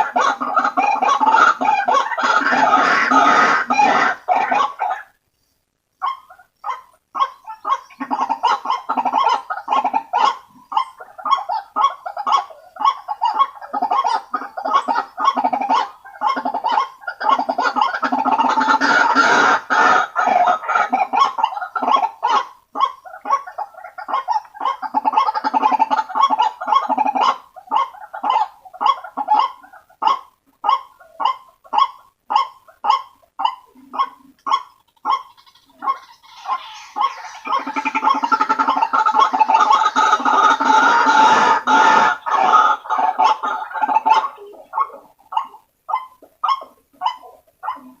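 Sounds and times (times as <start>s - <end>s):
waterhen calling: 0.0s - 5.1s, 6.0s - 48.0s.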